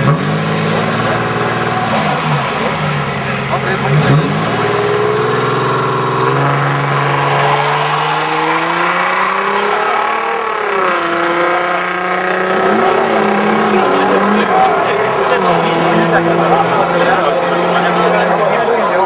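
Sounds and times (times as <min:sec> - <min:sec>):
car engine revving hard: 0:00.0 - 0:19.0.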